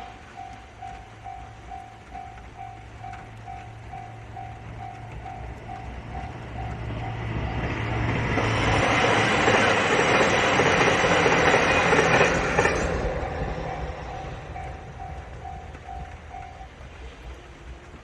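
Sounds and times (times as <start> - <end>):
crossing alarm bell ringing: 0.0 - 8.0, 9.5 - 16.9
train passing: 0.0 - 18.0.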